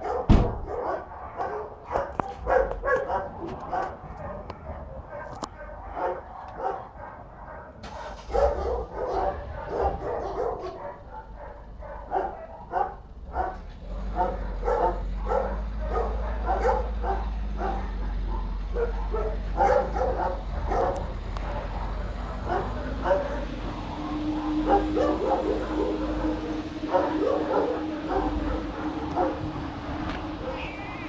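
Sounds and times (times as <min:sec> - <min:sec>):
dogs barking: 0:00.0 - 0:31.0.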